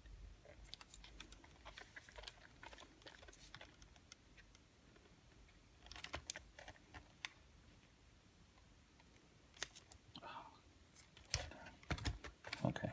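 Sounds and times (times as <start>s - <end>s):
hands rustling vinyl: 0.3s - 10.1s, 10.9s - 12.9s.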